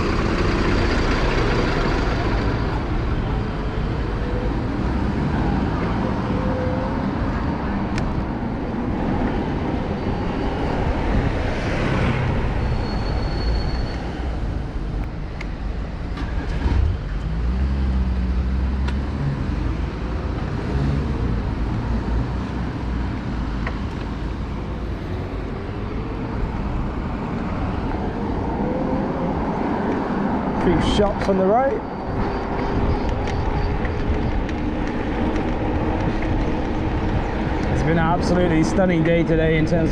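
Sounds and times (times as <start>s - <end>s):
vehicles passing on street: 0.0s - 39.9s.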